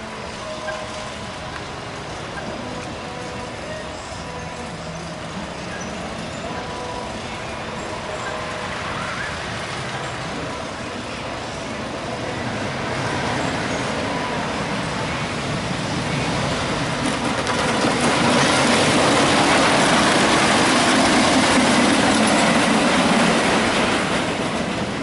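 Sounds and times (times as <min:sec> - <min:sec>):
roller coaster rumbling on wooden track: 0:03.9 - 0:25.0.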